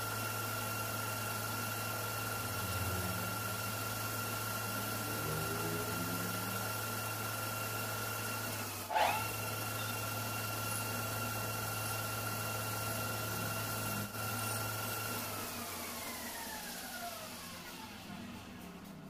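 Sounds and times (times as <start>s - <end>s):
metal lathe whining: 0.0s - 18.6s.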